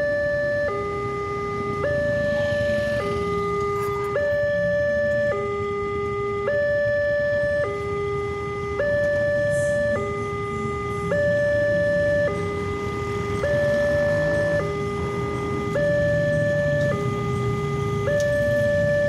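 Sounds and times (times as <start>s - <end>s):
two-tone crossing alarm: 0.0s - 19.0s.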